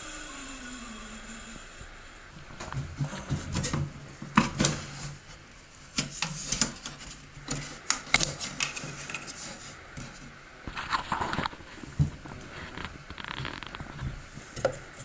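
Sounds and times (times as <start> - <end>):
plastic panel scraping: 2.4 - 15.0.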